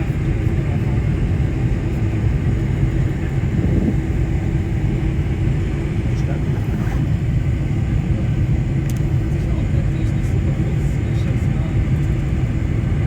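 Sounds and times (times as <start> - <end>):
airliner engines rumbling: 0.0 - 13.0.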